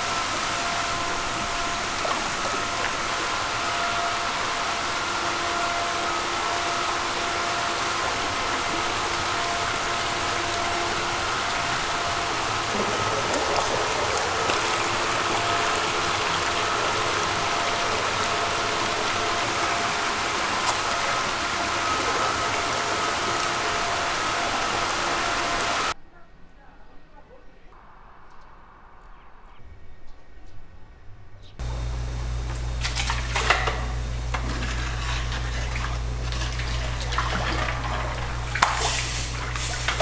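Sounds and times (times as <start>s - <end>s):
eels splashing: 0.0s - 26.0s, 32.6s - 40.0s
water rushing in tank: 0.0s - 26.0s, 31.6s - 40.0s
faint machine hum: 0.0s - 28.4s, 29.0s - 40.0s.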